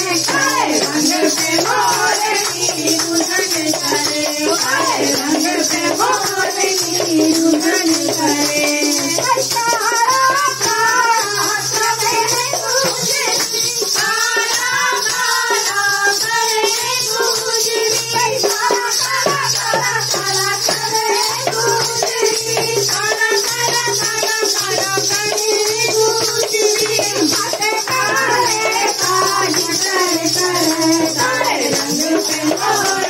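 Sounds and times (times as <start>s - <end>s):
shaker rattle: 0.0s - 33.0s
woman singing into microphone: 0.0s - 33.0s.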